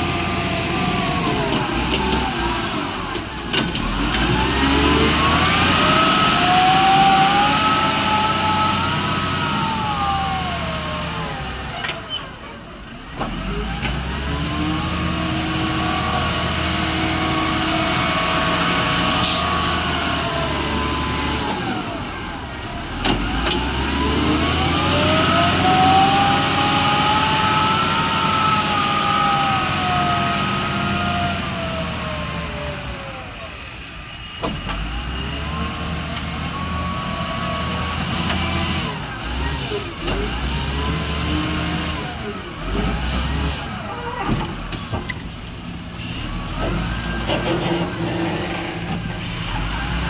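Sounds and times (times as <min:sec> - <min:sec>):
excavator engine and hydraulics: 0:00.0 - 0:50.0.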